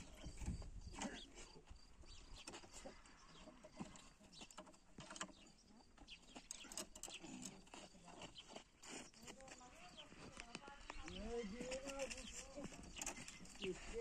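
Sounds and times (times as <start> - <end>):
faint clicks and rustling: 2.3 - 14.0.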